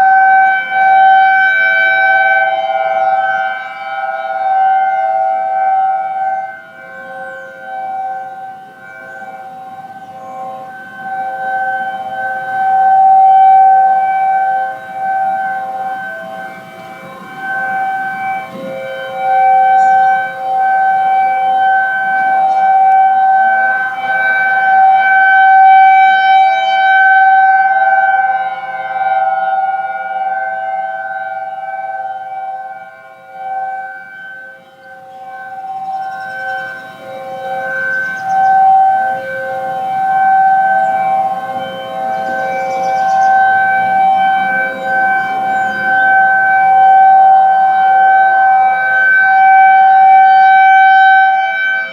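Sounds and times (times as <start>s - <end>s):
distant outdoor warning sirens: 0.0s - 51.9s.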